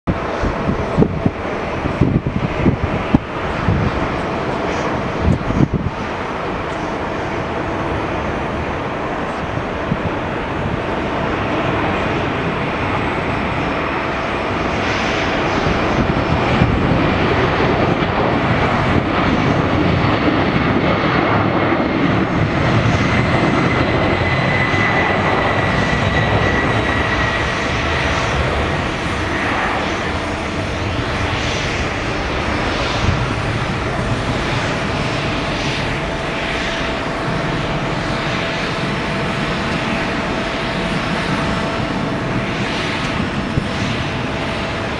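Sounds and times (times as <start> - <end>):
high jet whine: 0.1 - 44.9
jet engines roaring: 0.1 - 44.9.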